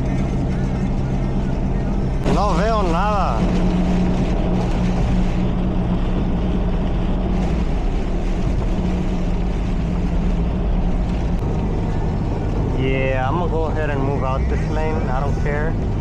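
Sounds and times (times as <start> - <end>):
car engine and tyre drone: 0.0 - 16.0.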